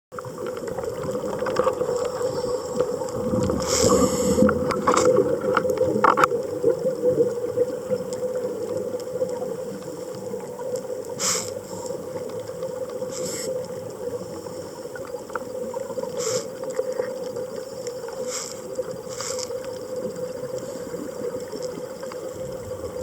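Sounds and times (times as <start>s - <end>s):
exhaled bubbles hissing: 0.2s - 23.0s
steady underwater hum: 0.2s - 23.0s.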